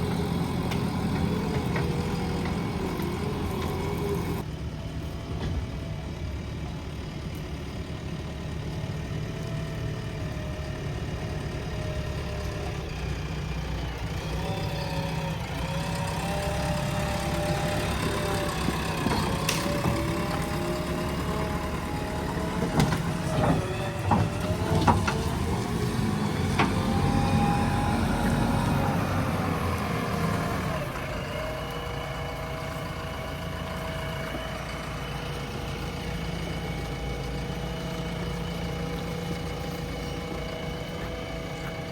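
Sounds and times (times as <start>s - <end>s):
diesel engine revving: 0.0s - 4.5s, 7.8s - 41.9s.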